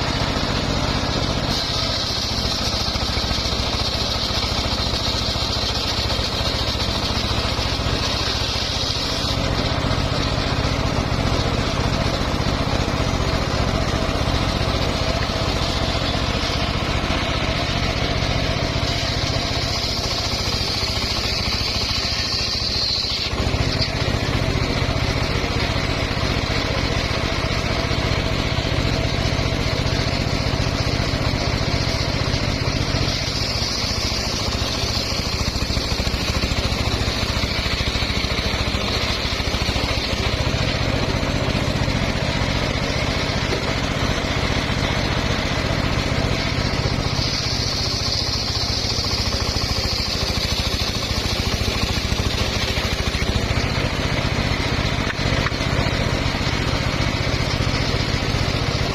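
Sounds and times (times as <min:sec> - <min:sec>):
sawmill engine running under load: 0:00.0 - 0:58.9.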